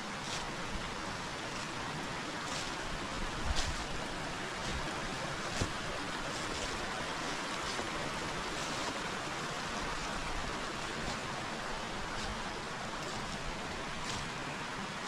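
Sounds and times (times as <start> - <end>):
river water rushing: 0.0 - 15.0
footsteps crunching: 0.1 - 14.5.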